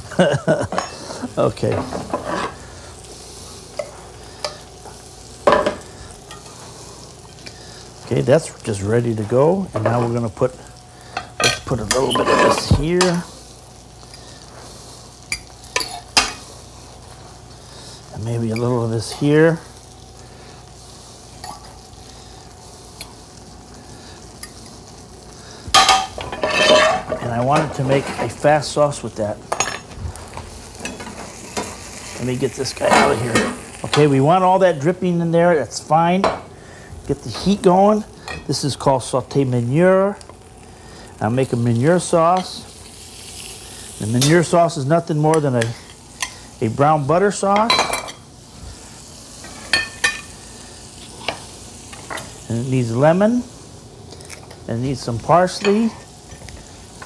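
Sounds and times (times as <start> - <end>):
hot oil sizzling: 0.0 - 57.0
low steady hiss: 0.0 - 57.0.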